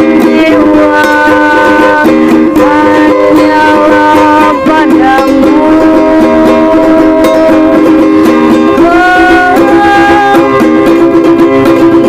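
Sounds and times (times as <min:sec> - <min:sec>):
person singing: 0:00.0 - 0:12.0
plucked ukulele accompaniment: 0:00.0 - 0:12.0.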